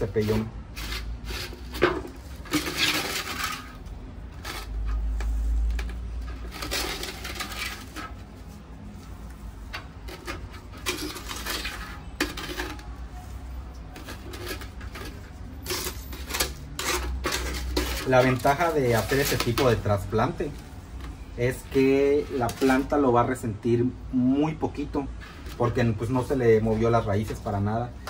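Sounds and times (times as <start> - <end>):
potting mix rustling: 0.0 - 28.0.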